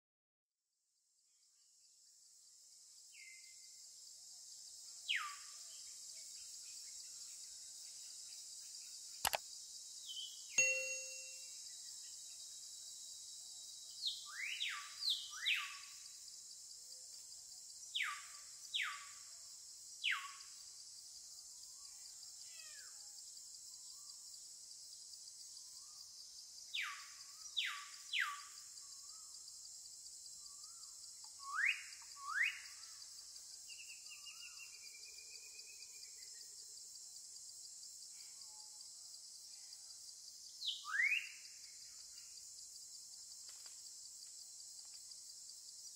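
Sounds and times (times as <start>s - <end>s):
insects buzzing: 1.6s - 45.9s.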